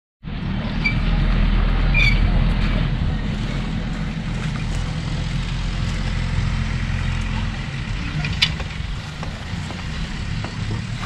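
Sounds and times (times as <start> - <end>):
low beach rumble: 0.2 - 11.0.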